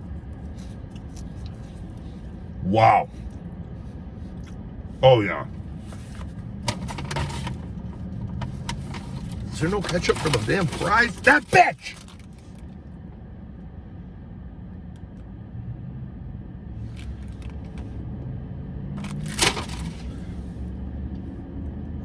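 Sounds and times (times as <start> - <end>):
low rumble in car cabin: 0.0 - 22.0.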